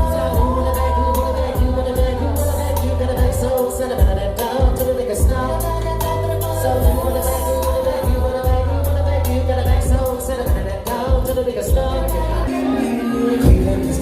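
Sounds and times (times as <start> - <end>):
heavy bass: 0.0 - 14.0
hi-hat beat: 0.0 - 14.0
hip-hop music: 0.0 - 14.0
person singing: 0.0 - 14.0.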